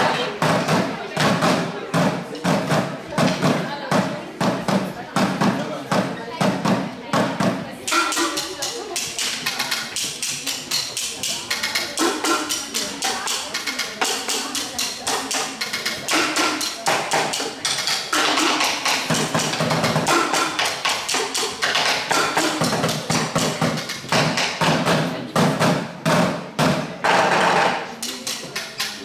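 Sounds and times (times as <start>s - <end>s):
drumsticks beating plastic buckets: 0.0s - 29.0s.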